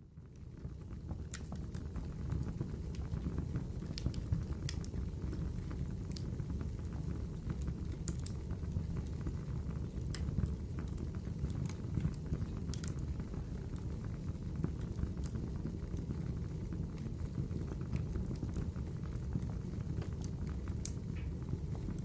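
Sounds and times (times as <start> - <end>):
wood fire crackling and popping: 0.2 - 22.0.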